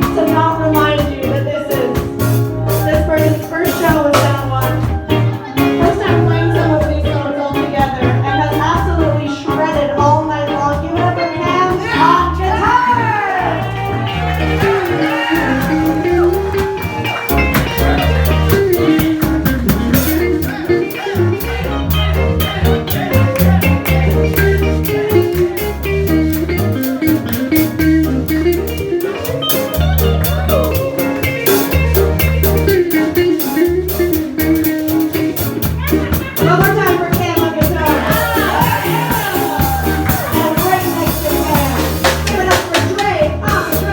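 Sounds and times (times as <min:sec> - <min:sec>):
drums keeping time: 0:00.0 - 0:43.9
live blues band playing: 0:00.0 - 0:43.9
walking bass line: 0:00.0 - 0:43.9.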